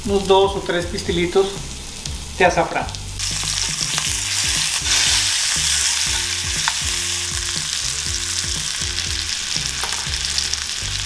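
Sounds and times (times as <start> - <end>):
fish fillets sizzling in a skillet: 0.1 - 11.0.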